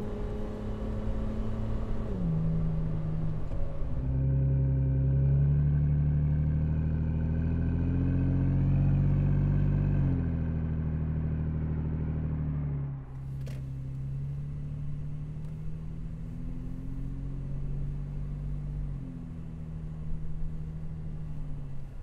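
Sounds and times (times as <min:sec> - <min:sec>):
car engine running at low revs: 0:00.0 - 0:22.0.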